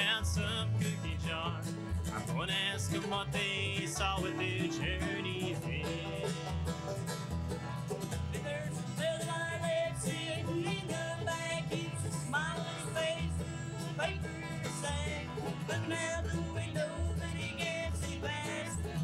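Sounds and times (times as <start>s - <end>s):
acoustic guitar: 0.0s - 19.0s
mandolin: 0.0s - 19.0s
picked banjo: 0.0s - 19.0s
pulsing bass line: 0.0s - 19.0s.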